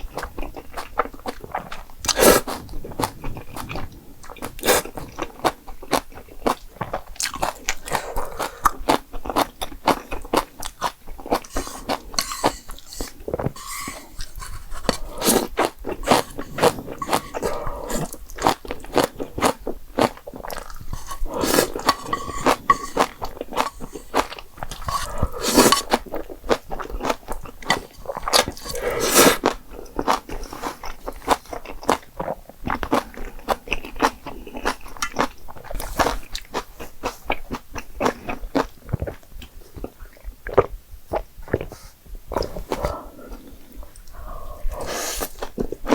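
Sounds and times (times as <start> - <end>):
wet chewing and crunching: 0.0 - 45.9.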